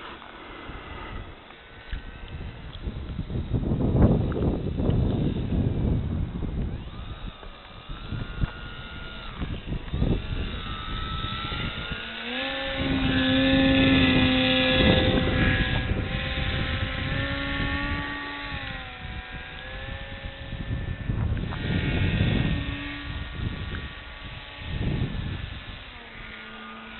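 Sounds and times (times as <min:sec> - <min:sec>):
model airplane motor whining: 0:00.0 - 0:26.9.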